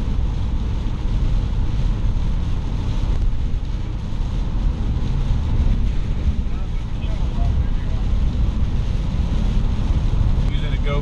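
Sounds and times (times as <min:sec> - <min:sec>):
gusting wind: 0:00.0 - 0:11.0
heavy rain: 0:00.0 - 0:11.0
road noise rumble: 0:00.0 - 0:11.0.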